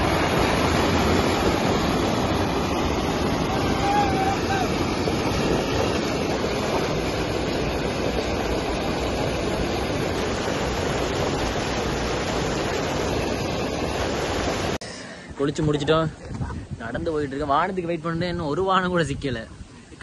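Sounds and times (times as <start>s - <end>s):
white water rushing and churning: 0.0s - 20.0s.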